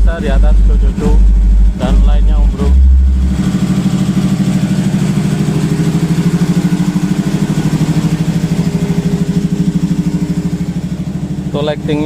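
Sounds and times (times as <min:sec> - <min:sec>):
deep low hum: 0:00.0 - 0:12.0
engine idling: 0:00.0 - 0:12.0.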